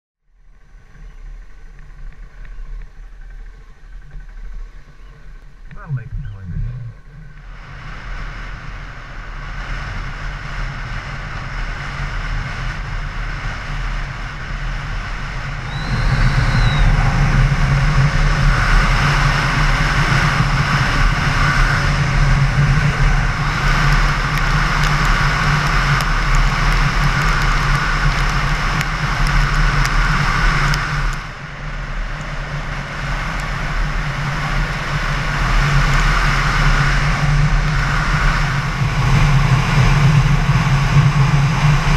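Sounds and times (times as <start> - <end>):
motorcycle engine running: 0.3 - 41.9
wind noise: 0.9 - 41.9.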